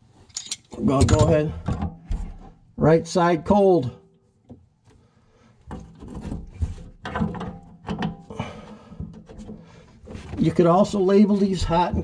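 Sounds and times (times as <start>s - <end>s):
hands handling plumbing parts: 0.0s - 2.8s, 4.1s - 12.0s.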